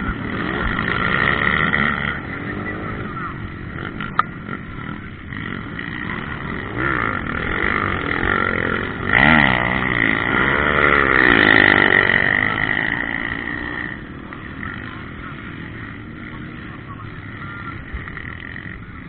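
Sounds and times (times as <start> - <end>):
high engine drone: 0.0 - 19.0
motocross bike revving: 0.0 - 19.0.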